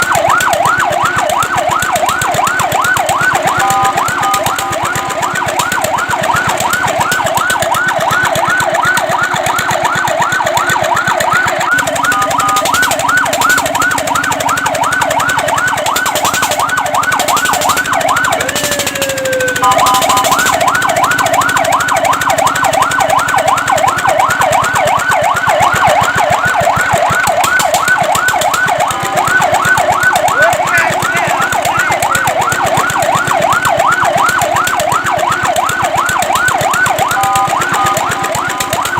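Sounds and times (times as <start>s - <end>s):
fire truck siren yelping: 0.0s - 38.9s.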